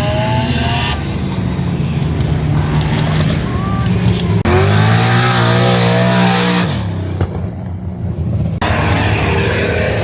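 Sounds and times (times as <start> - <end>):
car engine revving: 0.0 - 7.7, 8.4 - 10.0.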